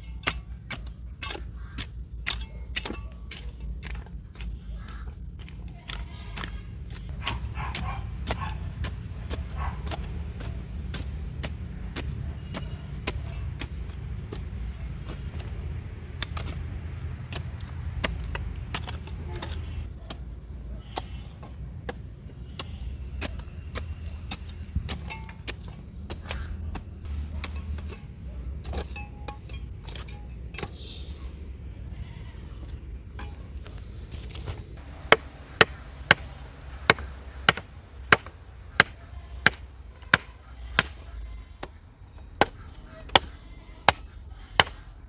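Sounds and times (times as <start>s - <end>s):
low steady rumble: 0.0s - 45.0s.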